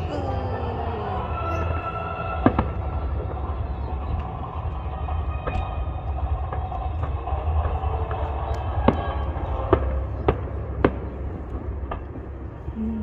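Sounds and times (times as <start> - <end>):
low rumble: 0.0 - 13.0
distant fireworks bursting: 2.3 - 12.7.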